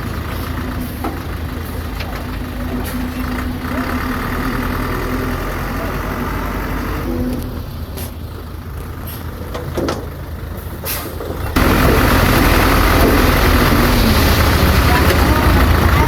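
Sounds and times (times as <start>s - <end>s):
diesel machinery engine rumble: 0.0s - 16.0s.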